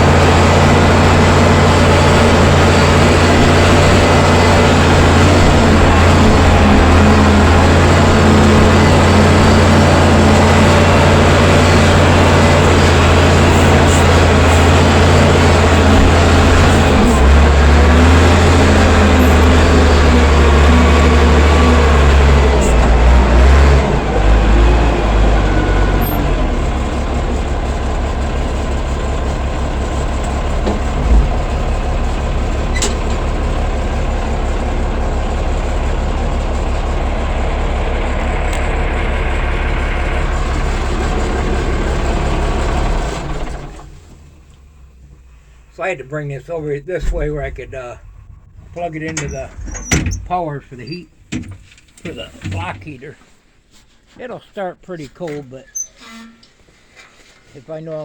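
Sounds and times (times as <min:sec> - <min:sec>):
diesel engine running: 0:00.0 - 0:53.6.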